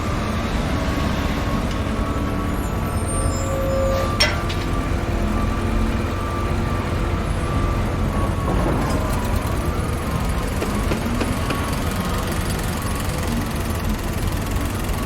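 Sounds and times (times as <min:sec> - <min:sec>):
heavy machinery engines rumbling: 0:00.0 - 0:15.0.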